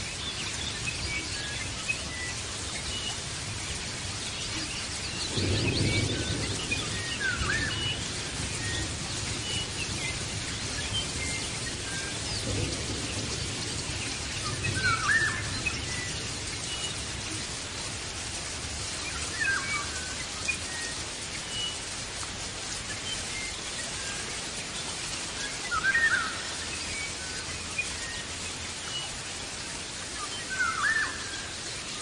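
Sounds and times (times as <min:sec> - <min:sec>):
birds chirping: 0:00.0 - 0:32.0
steady hiss: 0:00.0 - 0:32.0.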